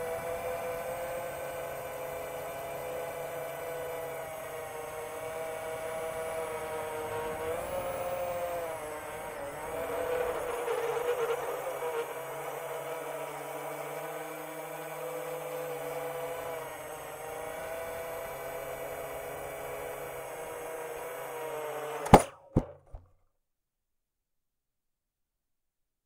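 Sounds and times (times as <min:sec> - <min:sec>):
quadcopter motors whining: 0:00.0 - 0:22.3.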